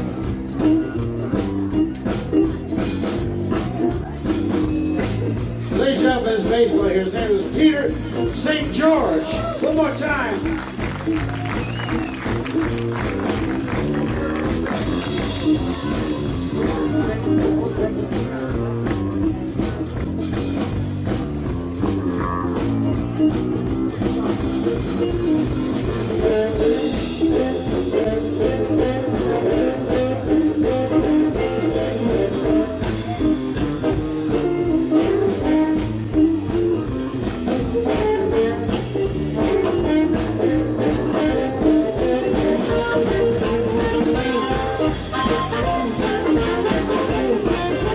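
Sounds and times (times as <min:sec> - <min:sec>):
bass guitar: 0:00.0 - 0:47.9
drum kit: 0:00.0 - 0:47.9
electric guitar: 0:00.0 - 0:47.9.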